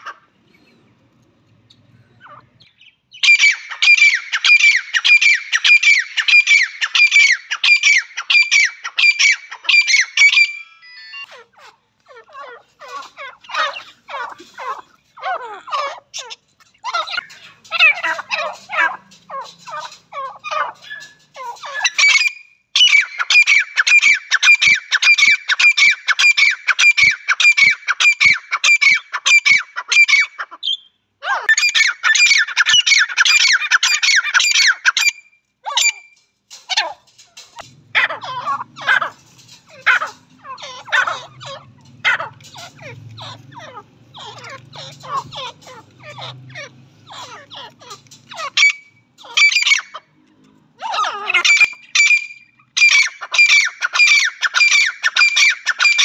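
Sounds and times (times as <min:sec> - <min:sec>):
francolins calling: 0:01.6 - 0:50.1, 0:50.8 - 0:56.0.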